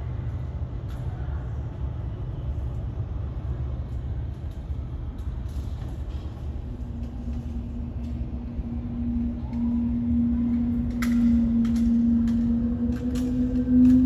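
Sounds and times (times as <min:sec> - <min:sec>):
jet airliner engines rumbling: 0:00.0 - 0:14.0
steady low hum: 0:00.0 - 0:14.0.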